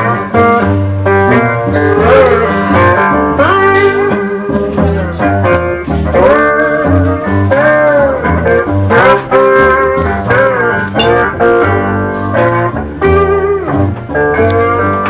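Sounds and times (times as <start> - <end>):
acoustic blues guitar: 0.0 - 15.0.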